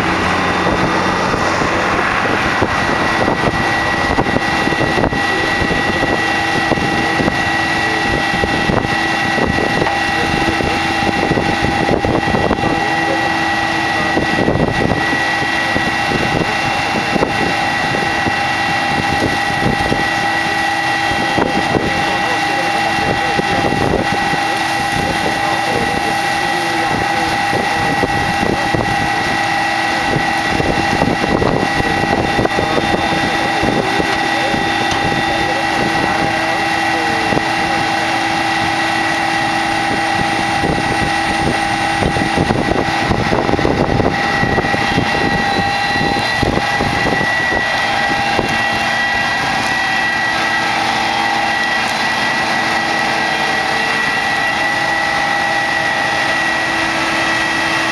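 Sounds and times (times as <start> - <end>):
harvester engine running: 0.0 - 57.9
machine whines: 0.0 - 57.9.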